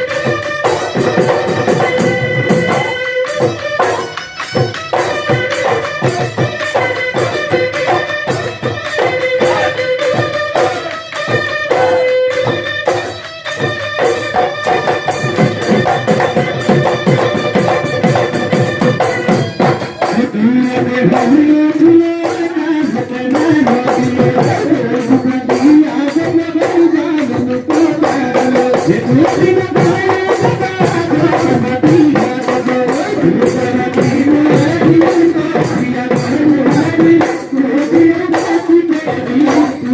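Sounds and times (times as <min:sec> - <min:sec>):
drums in quick rhythm: 0:00.0 - 0:39.9.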